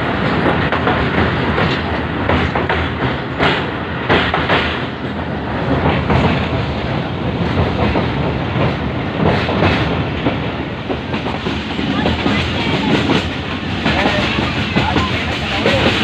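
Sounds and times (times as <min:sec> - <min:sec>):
train rumble and rushing: 0:00.0 - 0:16.0
wheels clacking over rail joints: 0:00.0 - 0:16.0.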